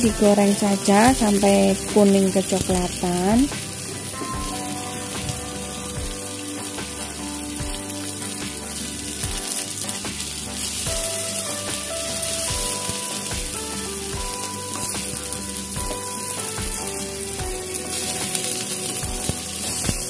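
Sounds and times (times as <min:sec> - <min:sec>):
background music: 0:00.0 - 0:20.0
food sizzling in pan: 0:00.0 - 0:20.0.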